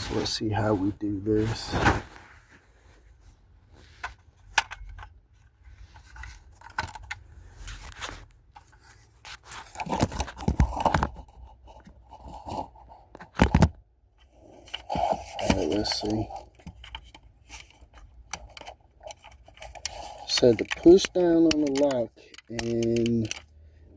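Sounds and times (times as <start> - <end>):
plastic clicking and scraping: 4.0 - 23.6.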